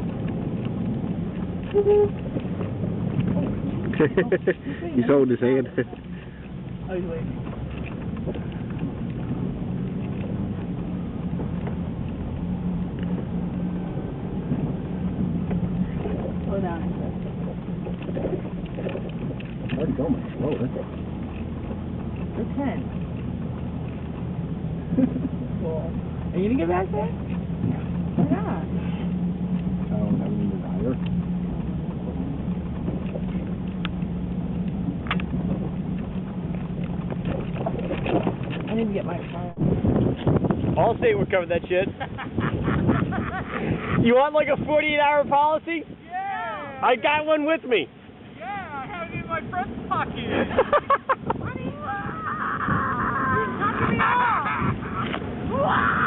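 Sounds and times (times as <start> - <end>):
constant rushing noise: 0.0 - 56.0
vehicle engine running: 0.0 - 56.0.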